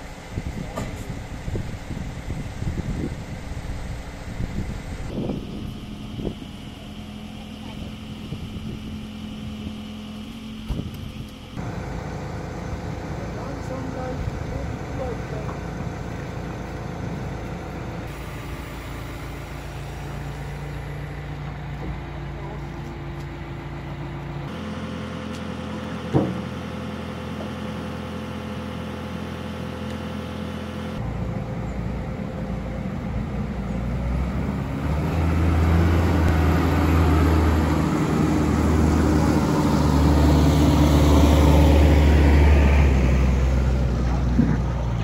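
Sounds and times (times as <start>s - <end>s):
diesel engines running: 0.0s - 45.0s.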